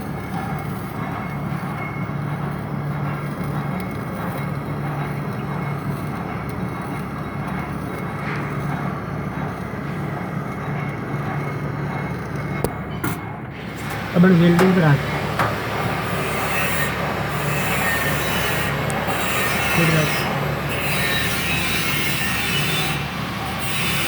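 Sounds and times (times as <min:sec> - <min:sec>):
mechanical hum with high whine: 0:00.0 - 0:24.0.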